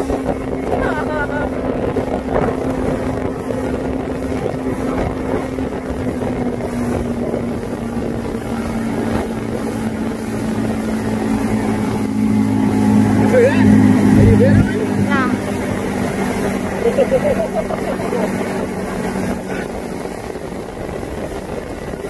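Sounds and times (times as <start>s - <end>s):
outboard motor running: 0.0s - 22.0s
water rushing around hull: 0.0s - 22.0s.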